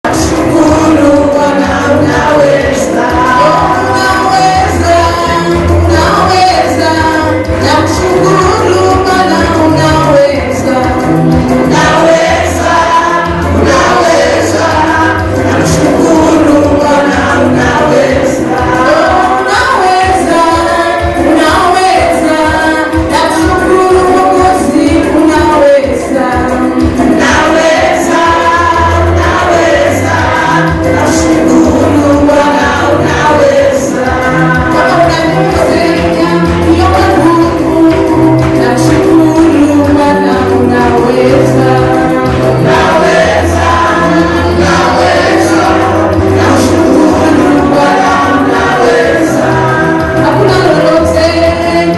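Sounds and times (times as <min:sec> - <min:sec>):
choir singing gospel song: 0:00.0 - 0:51.9
instrumental backing with bass: 0:00.0 - 0:51.9.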